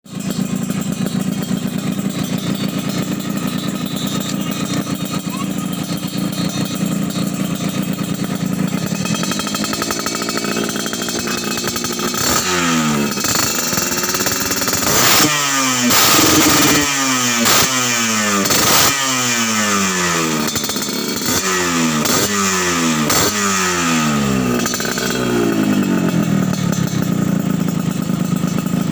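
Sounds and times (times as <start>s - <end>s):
two-stroke engine revving: 0.0s - 28.9s.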